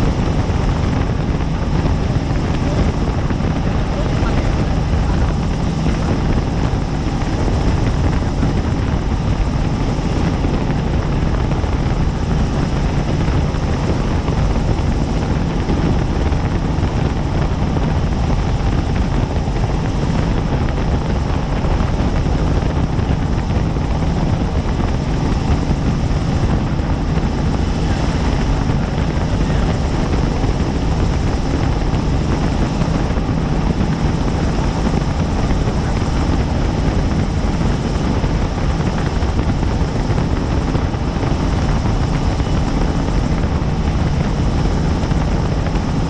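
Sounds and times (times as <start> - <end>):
helicopter rotor and engine: 0.0 - 46.0.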